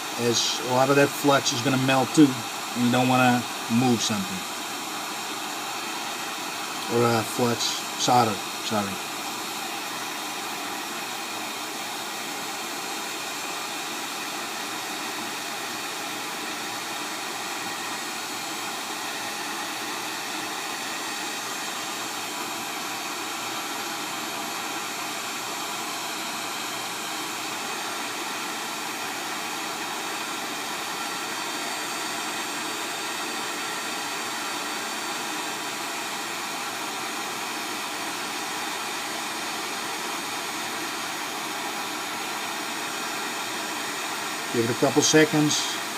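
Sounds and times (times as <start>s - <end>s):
heat gun blowing air: 0.0s - 45.9s.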